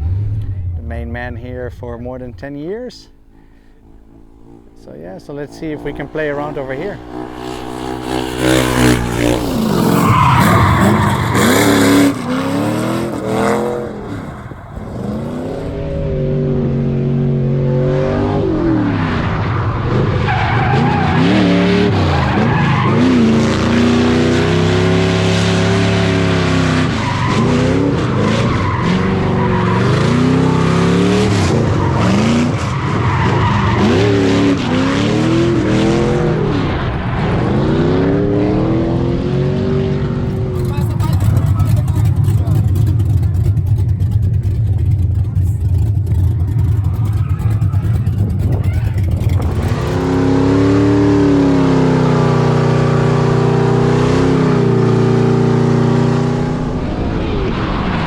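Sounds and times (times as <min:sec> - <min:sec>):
car engine revving: 0:00.0 - 0:58.0
tyres skidding and squealing: 0:02.7 - 0:17.0, 0:17.6 - 0:58.0.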